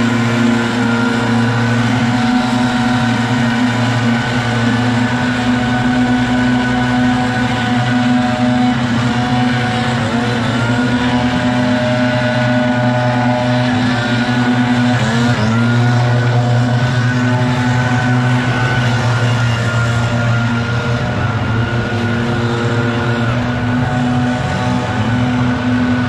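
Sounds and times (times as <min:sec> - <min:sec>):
leaf blowers droning: 0:00.0 - 0:26.0.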